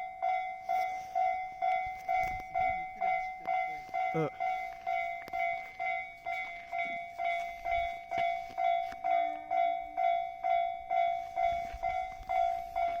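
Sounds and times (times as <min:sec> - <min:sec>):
level crossing warning bell ringing: 0:00.0 - 0:13.0.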